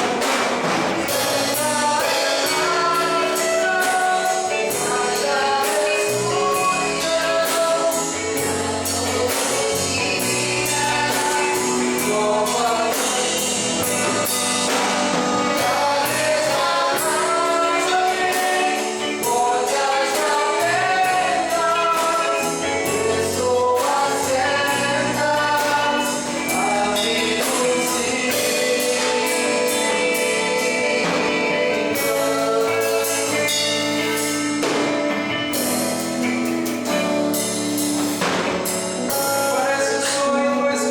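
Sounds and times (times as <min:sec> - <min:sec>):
drum beat: 0:00.0 - 0:06.0, 0:06.6 - 0:21.4, 0:25.7 - 0:39.5
band accompaniment: 0:00.0 - 0:40.9
group singing gospel song: 0:00.0 - 0:40.9.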